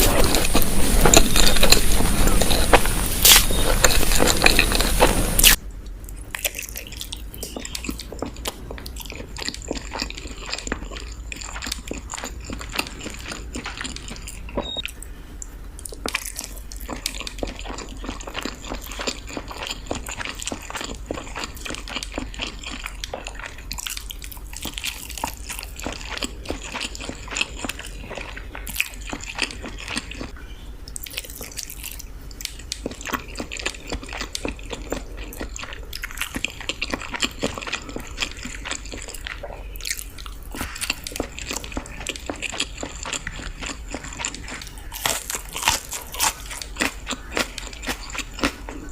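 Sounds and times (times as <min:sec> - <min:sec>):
chewing with wet smacks: 0:00.0 - 0:48.9.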